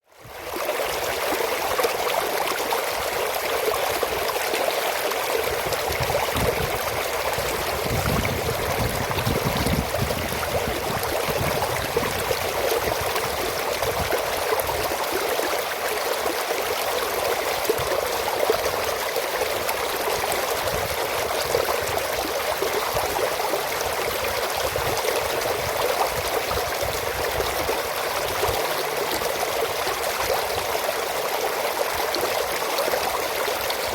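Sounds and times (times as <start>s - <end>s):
water rushing through channel: 0.3s - 33.9s.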